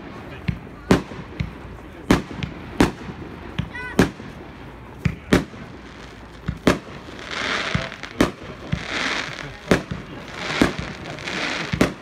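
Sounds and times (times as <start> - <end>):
crackling hiss of bursting shots: 0.0 - 12.0
firework bangs: 0.0 - 12.0.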